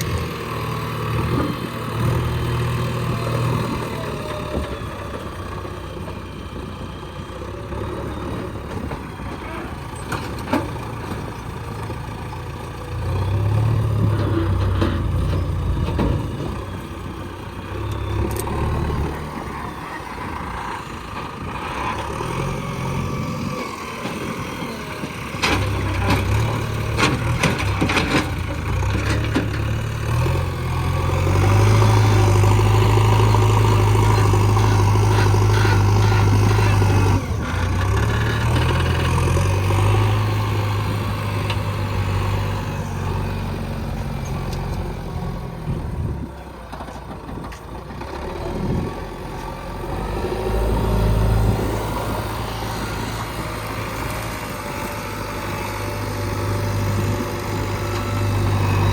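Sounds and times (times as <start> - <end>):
diesel engine revving: 0.0 - 58.9.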